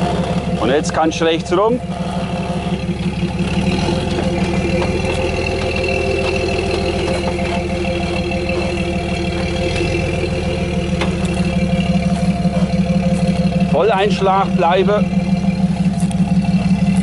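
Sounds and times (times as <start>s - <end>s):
car engine at low revs: 0.0s - 17.0s.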